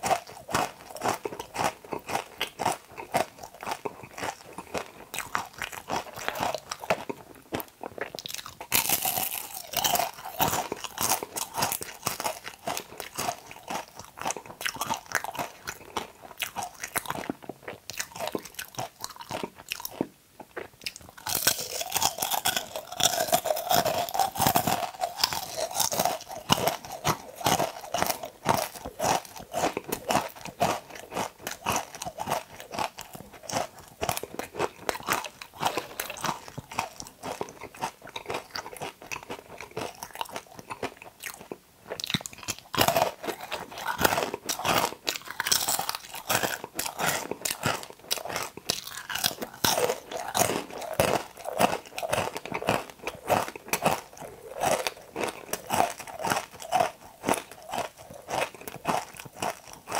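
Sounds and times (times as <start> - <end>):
crunching and chewing: 0.0 - 59.9.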